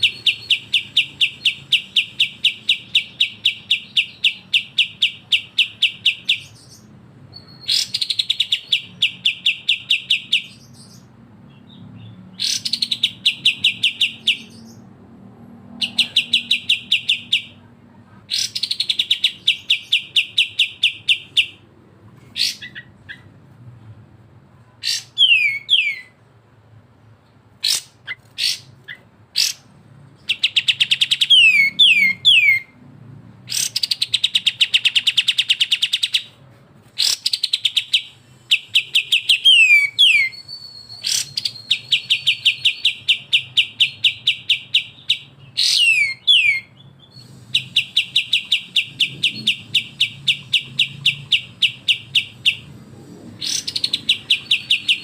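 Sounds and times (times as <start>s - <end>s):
songbirds calling harshly: 0.0s - 14.9s, 15.7s - 21.6s, 22.2s - 23.4s, 24.8s - 26.2s, 27.6s - 32.8s, 33.5s - 36.3s, 36.9s - 55.0s.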